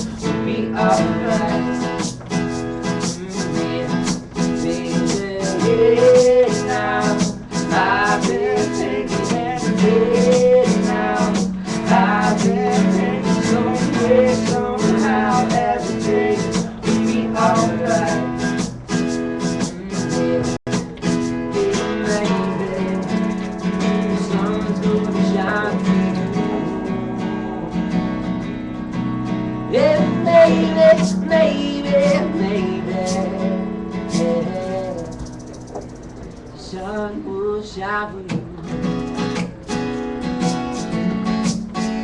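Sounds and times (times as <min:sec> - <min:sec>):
strummed acoustic guitar: 0:00.0 - 0:42.0.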